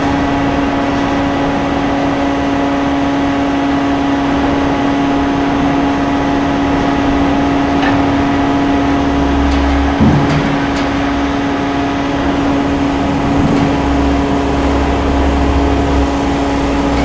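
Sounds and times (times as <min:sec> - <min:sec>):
deep machine rumble: 0:00.0 - 0:17.0
press machine humming: 0:00.0 - 0:17.0.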